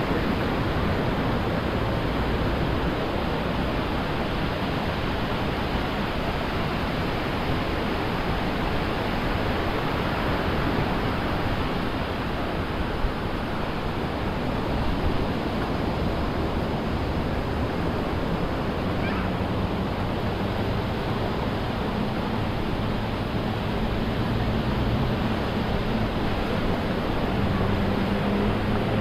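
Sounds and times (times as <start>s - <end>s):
waves breaking on a beach: 0.0s - 29.0s.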